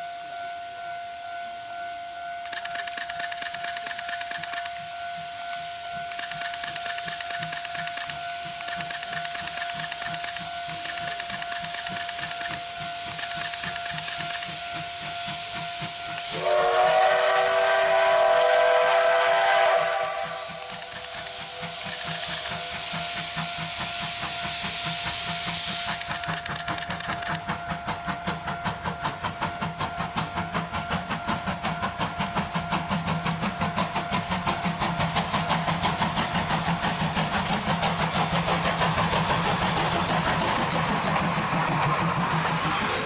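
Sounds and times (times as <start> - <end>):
loud steam hiss: 0.0 - 43.0
steam locomotive exhaust chuffs: 0.0 - 43.0.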